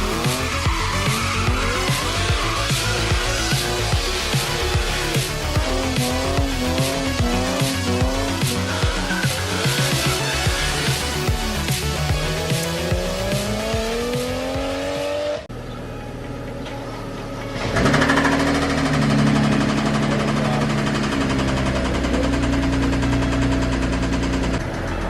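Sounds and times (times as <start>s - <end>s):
car engine revving: 0.0s - 15.5s, 17.5s - 25.0s
background music: 0.0s - 25.0s.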